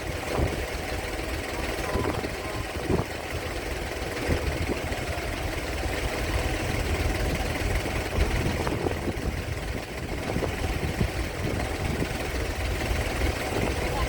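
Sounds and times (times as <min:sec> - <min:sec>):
ship engine rumbling: 0:00.0 - 0:14.0.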